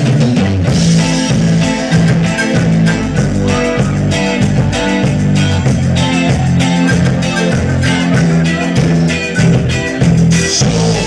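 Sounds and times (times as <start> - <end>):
bass: 0.0 - 11.0
drum kit beat: 0.0 - 11.0
electric guitar: 0.0 - 11.0
keyboards: 0.0 - 11.0.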